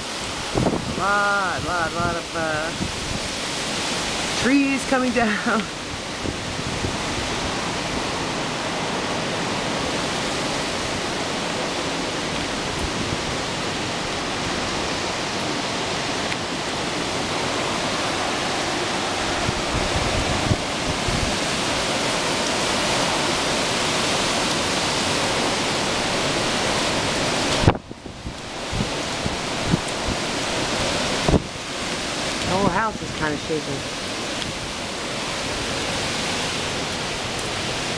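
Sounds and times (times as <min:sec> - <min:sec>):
strong wind rushing: 0:00.0 - 0:05.0, 0:05.7 - 0:16.1, 0:16.7 - 0:33.2
wind buffeting microphone: 0:00.0 - 0:37.9.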